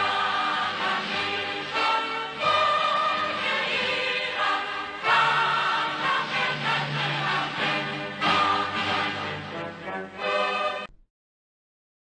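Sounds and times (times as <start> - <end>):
choir singing held chords: 0.0 - 10.9.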